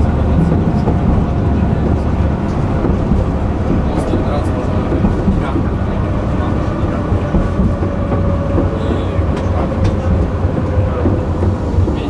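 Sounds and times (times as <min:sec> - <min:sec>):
tram rumble: 0:00.0 - 0:12.0
wheels clicking on rails: 0:00.0 - 0:12.0.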